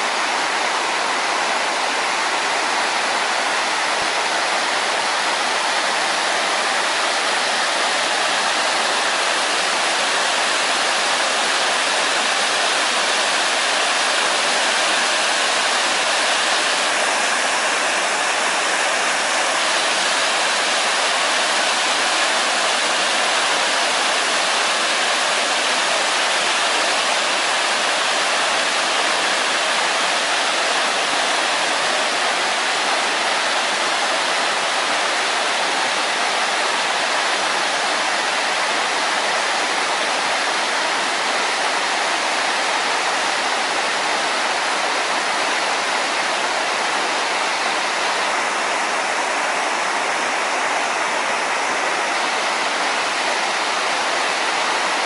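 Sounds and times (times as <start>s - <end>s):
stream rushing over rapids: 0.0s - 55.0s.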